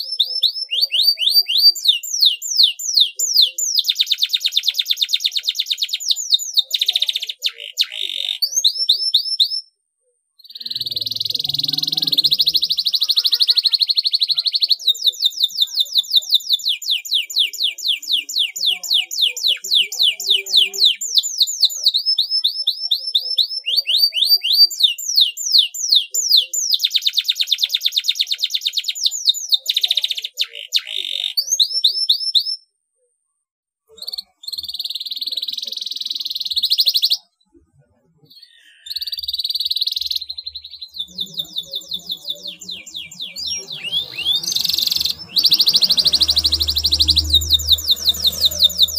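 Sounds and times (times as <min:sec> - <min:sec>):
canary singing trills: 0:00.0 - 0:09.7, 0:10.4 - 0:32.6, 0:33.9 - 0:48.9.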